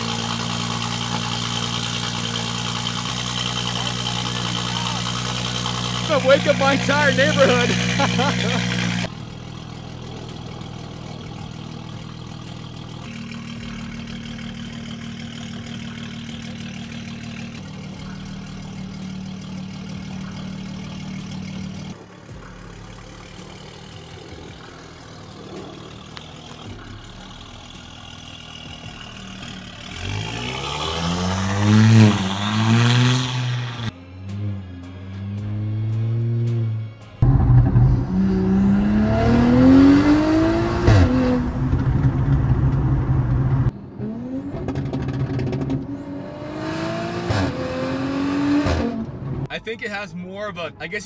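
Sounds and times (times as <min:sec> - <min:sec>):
car engine idling and revving: 0:00.0 - 0:51.0.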